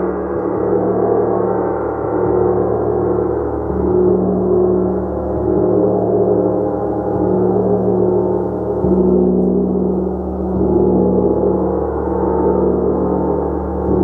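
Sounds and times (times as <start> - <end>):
gong ringing: 0.0 - 14.0.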